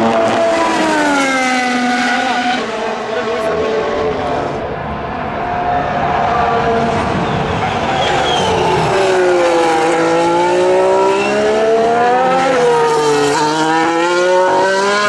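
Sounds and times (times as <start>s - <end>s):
racing car engine: 0.0s - 15.0s.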